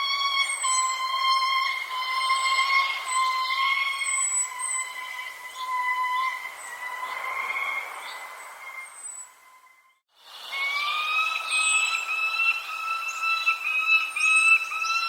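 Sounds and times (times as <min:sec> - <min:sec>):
held bird calls: 0:00.0 - 0:15.0
high bird chirps: 0:00.5 - 0:10.0, 0:10.7 - 0:15.0.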